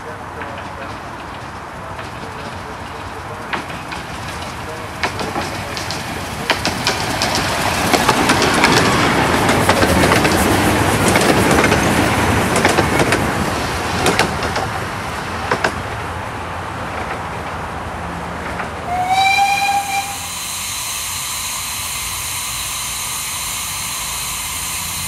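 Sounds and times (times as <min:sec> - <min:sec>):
steam train running past: 0:00.0 - 0:17.7, 0:18.4 - 0:25.0
wheels clicking on track: 0:00.0 - 0:25.0.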